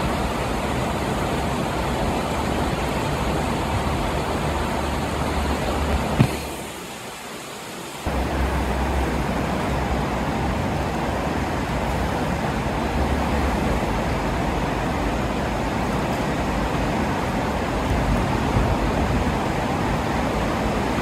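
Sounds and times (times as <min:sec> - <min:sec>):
floodwater roaring: 0:00.0 - 0:21.0.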